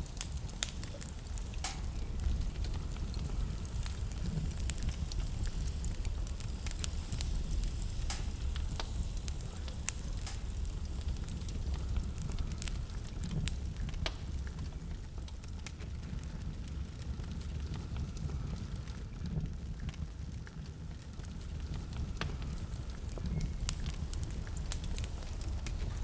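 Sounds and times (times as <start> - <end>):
flames rumbling: 0.0 - 26.0
wood fire crackling and popping: 0.0 - 26.0.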